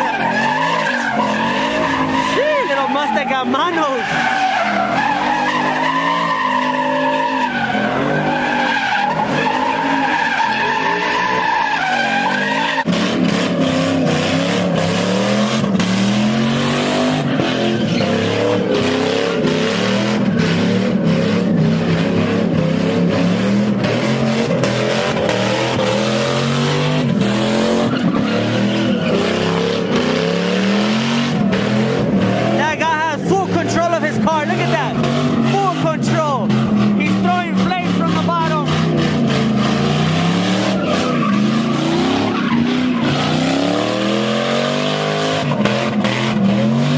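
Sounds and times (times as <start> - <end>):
car engine revving: 0.0 - 46.9
tyres screeching: 0.0 - 46.9.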